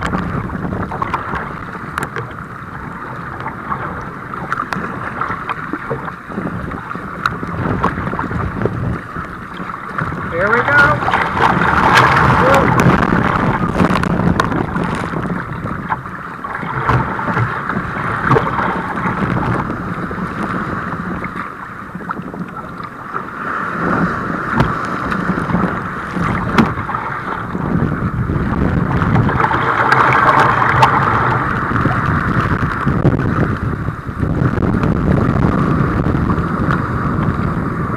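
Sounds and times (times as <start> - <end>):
water rushing around a kayak: 0.0 - 37.9
wind buffeting the microphone: 0.0 - 37.9.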